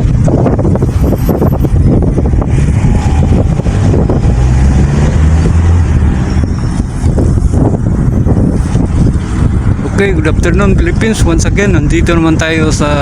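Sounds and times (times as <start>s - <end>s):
road vehicles: 0.0s - 13.0s
wind buffeting microphone: 0.0s - 13.0s.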